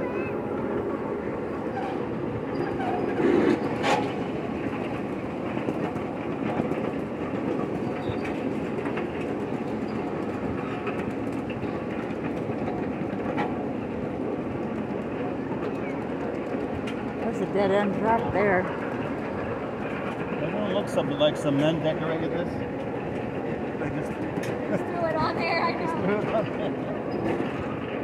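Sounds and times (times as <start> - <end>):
train rumbling on track: 0.0 - 28.0
train wheels clacking: 1.5 - 28.0.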